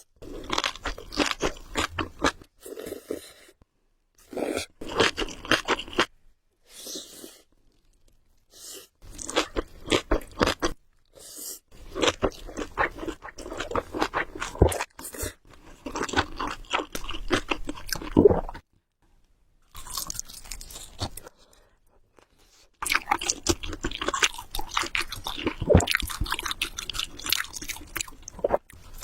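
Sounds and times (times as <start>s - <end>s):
person chewing food: 0.2s - 3.5s, 4.3s - 6.1s, 9.0s - 11.1s, 11.7s - 18.6s, 19.7s - 29.0s.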